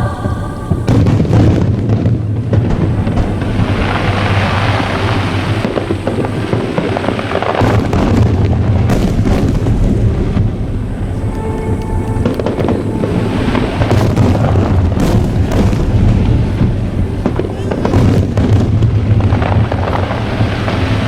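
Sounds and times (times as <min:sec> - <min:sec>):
fireworks booming and crackling: 0:00.0 - 0:21.0
music playing: 0:00.0 - 0:21.0.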